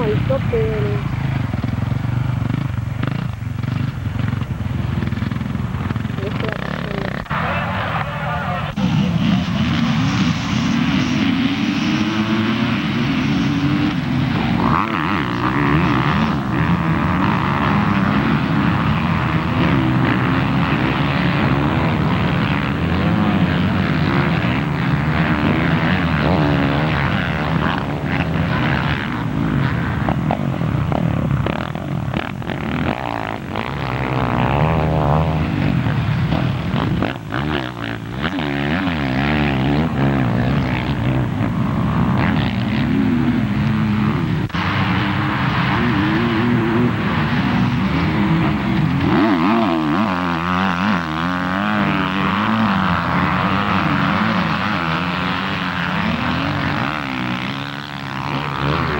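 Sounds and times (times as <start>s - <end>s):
motocross bike engines revving: 0.0s - 58.9s.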